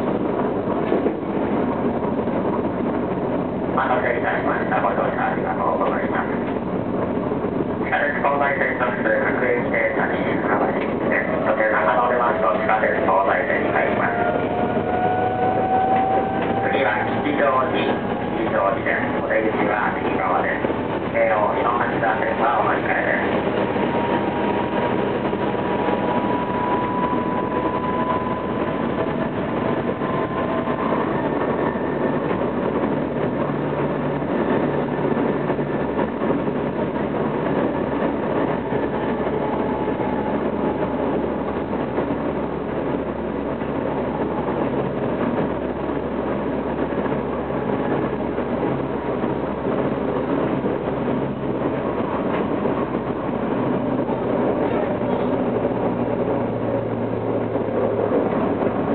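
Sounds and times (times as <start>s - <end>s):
train inverter whine: 0.0s - 58.9s
wheel on rail running noise: 0.0s - 58.9s.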